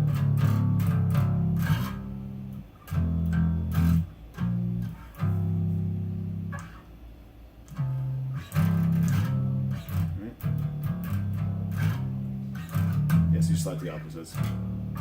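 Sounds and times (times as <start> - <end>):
electric bass guitar plucked notes: 0.0 - 6.9, 7.7 - 15.0.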